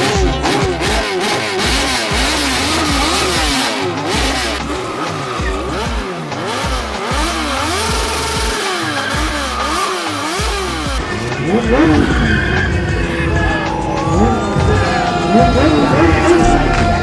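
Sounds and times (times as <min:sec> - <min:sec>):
hip hop music with deep bass: 0:00.0 - 0:17.0
motorcycle engines revving: 0:00.0 - 0:17.0.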